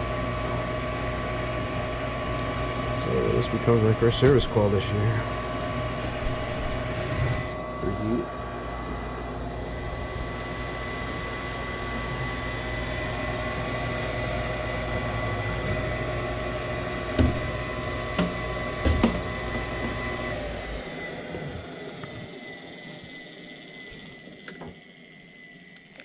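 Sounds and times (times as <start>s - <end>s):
furnace motor humming: 0.0s - 26.0s.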